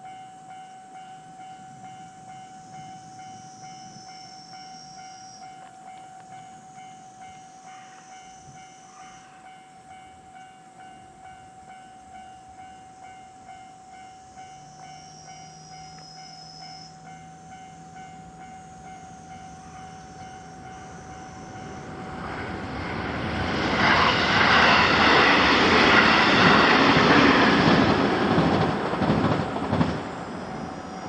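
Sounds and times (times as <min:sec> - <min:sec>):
train passing rumble: 0:00.0 - 0:31.0.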